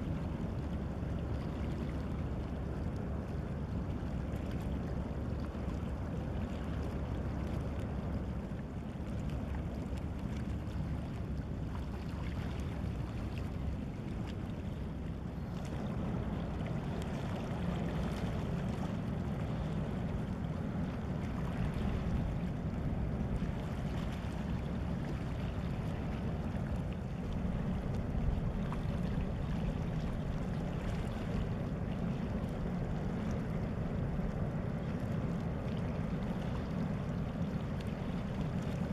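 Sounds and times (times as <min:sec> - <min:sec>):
boat engine rumble: 0:00.0 - 0:38.9.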